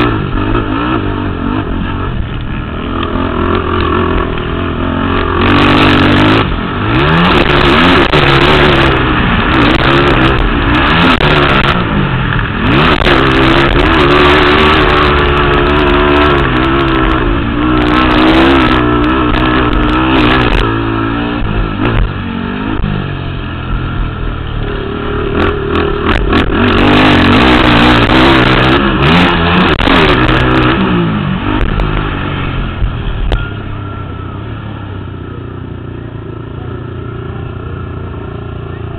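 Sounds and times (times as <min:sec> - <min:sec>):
quad engines revving: 0:00.0 - 0:38.9.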